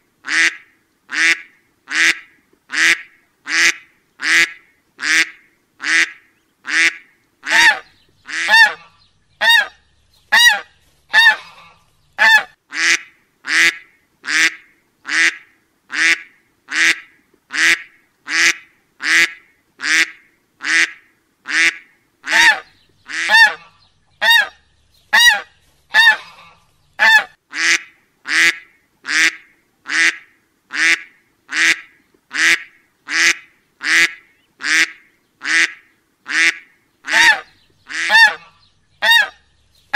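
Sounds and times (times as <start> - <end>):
duck-like honk: 0.3 - 9.8, 10.4 - 24.6, 25.2 - 39.4.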